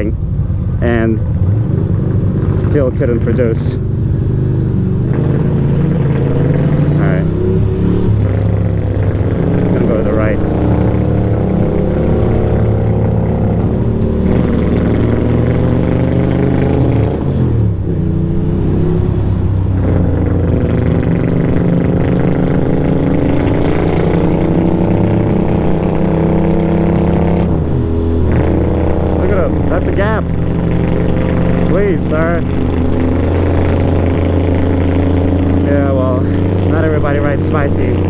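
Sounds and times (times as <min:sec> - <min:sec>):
motorcycle engine running: 0:00.0 - 0:38.0
road noise: 0:00.0 - 0:38.0.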